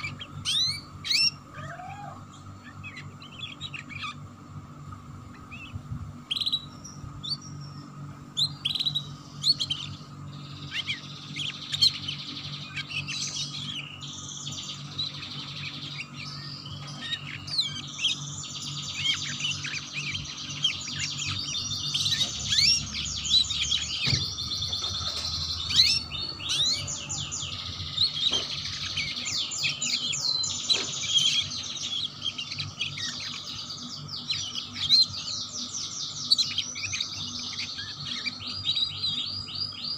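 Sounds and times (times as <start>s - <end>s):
canary singing trills: 0.0s - 39.9s
faint steady hum: 0.0s - 39.9s.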